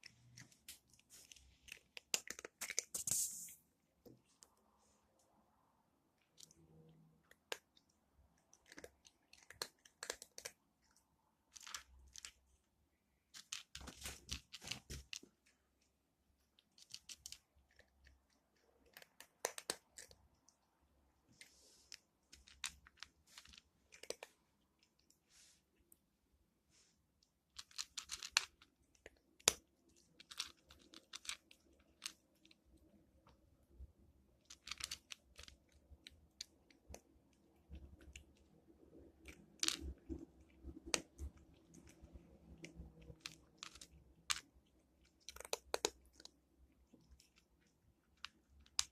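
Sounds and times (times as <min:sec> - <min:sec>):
cat crunching dry kibble: 0:00.0 - 0:03.5, 0:06.2 - 0:20.7, 0:21.3 - 0:25.2, 0:27.5 - 0:48.9.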